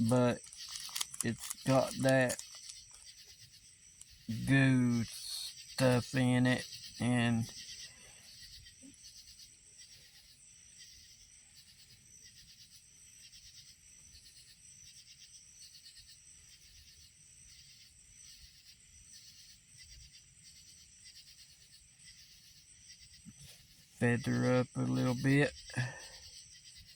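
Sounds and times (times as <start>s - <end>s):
high-pitched insect trill: 0.0s - 26.9s
insects chirping: 0.0s - 26.9s.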